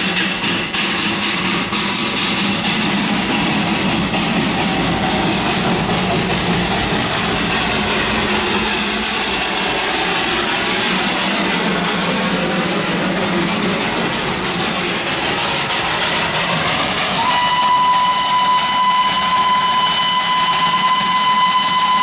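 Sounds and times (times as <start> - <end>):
train clicks: 0.0 - 22.0
train rumbling and rattling: 0.0 - 22.0.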